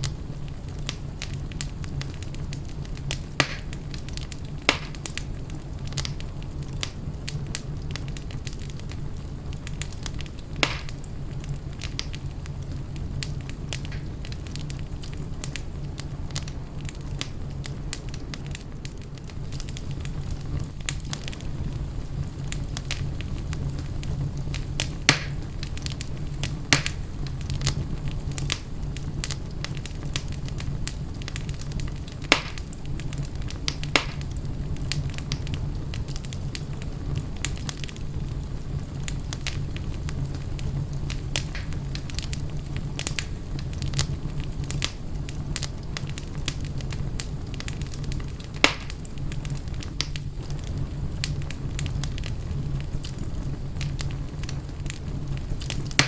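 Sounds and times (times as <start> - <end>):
wood fire crackling in fireplace: 0.0 - 56.0.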